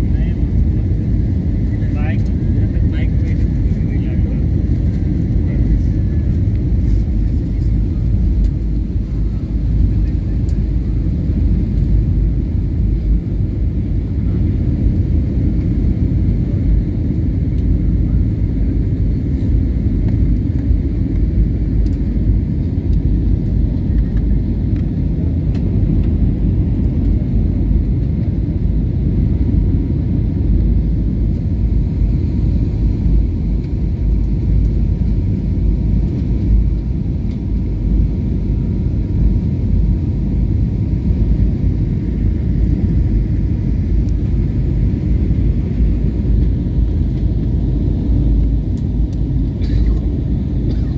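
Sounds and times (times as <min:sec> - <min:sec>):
engine and airflow rumble: 0:00.0 - 0:50.9.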